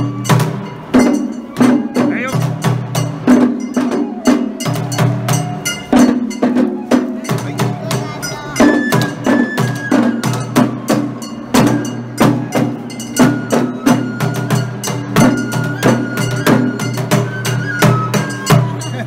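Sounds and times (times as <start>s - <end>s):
bamboo flute melody: 0.0s - 19.0s
taiko drums beating: 0.0s - 19.0s.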